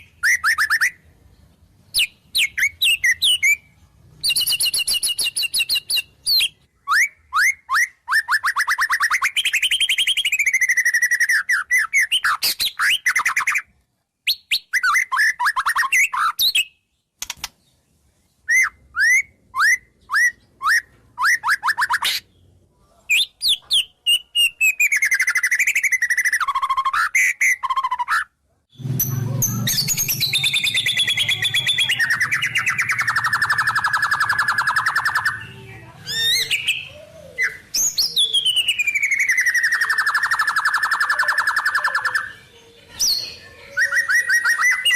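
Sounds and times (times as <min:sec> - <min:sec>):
bird singing trills and whistles: 0:00.0 - 0:01.0, 0:01.9 - 0:17.0, 0:18.4 - 0:44.9.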